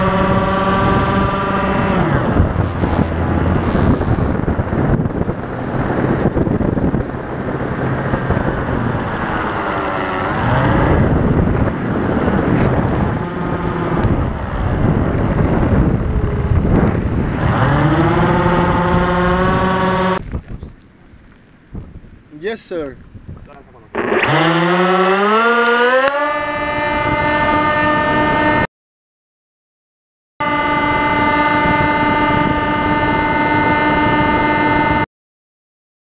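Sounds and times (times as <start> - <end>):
motor and propeller whine: 0.0 - 20.2, 23.8 - 28.7, 30.4 - 35.0
wind on microphone: 0.0 - 28.7, 30.4 - 35.0.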